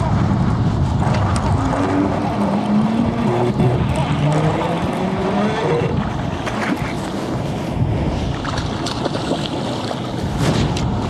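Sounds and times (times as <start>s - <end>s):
wind rumbling on microphone: 0.0s - 11.0s
water sloshing against boat: 1.0s - 11.0s.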